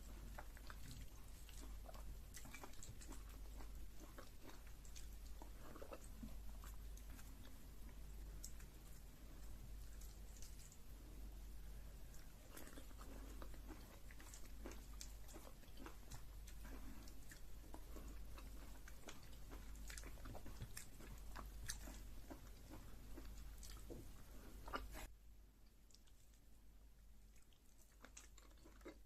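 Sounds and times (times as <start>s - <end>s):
close chewing with wet mouth clicks: 0.0s - 25.1s, 25.7s - 26.6s, 27.2s - 29.0s.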